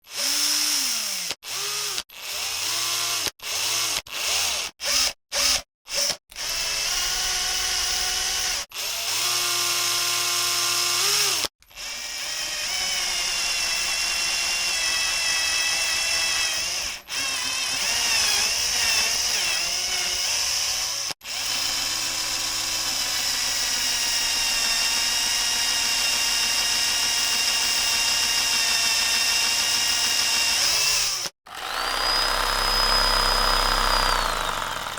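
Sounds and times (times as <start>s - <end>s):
power tool electric motor: 0.0s - 34.9s.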